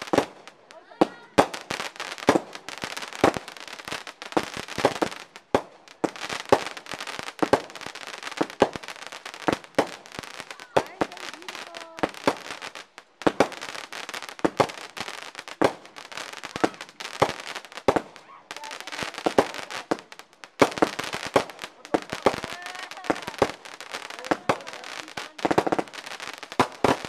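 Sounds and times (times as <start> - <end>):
fireworks bangs and pops: 0.0 - 27.0
fireworks crackle: 0.0 - 27.0.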